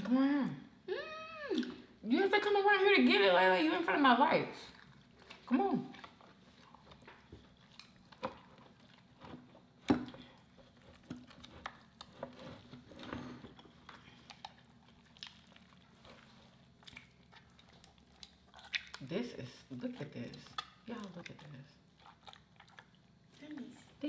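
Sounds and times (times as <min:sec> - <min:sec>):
chewing: 0:04.6 - 0:24.0.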